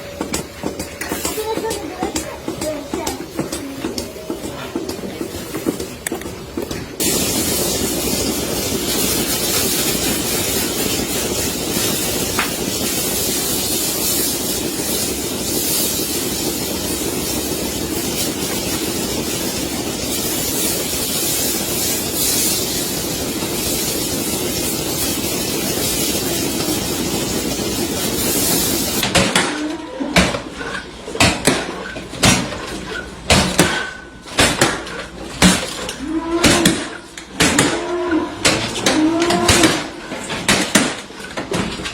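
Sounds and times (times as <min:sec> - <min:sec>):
milking machinery rushing: 0:00.0 - 0:41.9.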